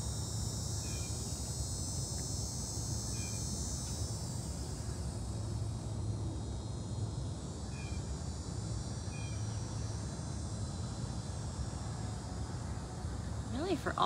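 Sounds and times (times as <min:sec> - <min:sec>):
insects chirping in chorus: 0:00.0 - 0:14.0.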